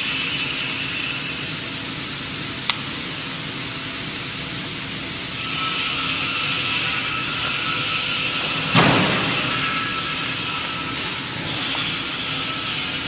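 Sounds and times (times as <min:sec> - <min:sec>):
factory machinery noise: 0:00.0 - 0:13.0.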